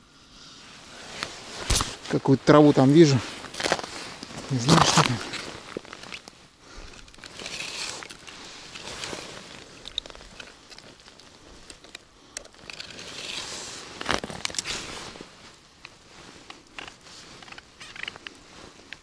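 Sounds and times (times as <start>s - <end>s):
fishing line crinkling and crackling: 1.0s - 19.0s.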